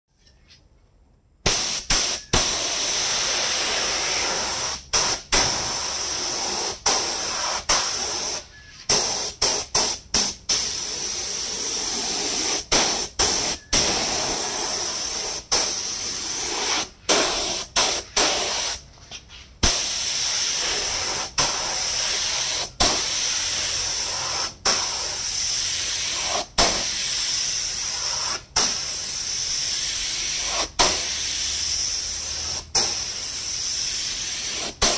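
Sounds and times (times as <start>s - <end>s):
spray gun hissing: 1.5s - 18.8s, 19.6s - 34.9s.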